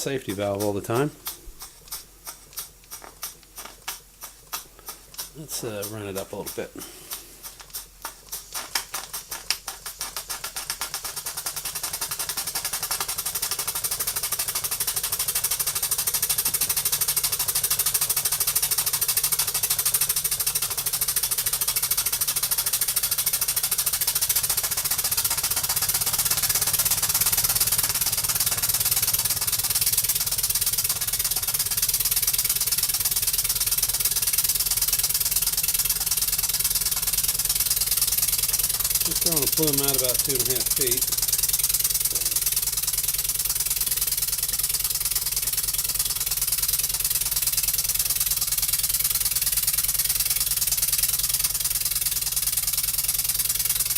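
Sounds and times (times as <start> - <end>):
model steam engine exhaust beats: 0.0 - 53.9.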